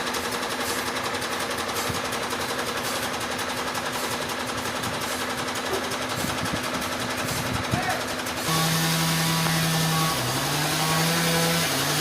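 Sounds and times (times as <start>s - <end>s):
machinery running with fast rattle: 0.0s - 12.0s.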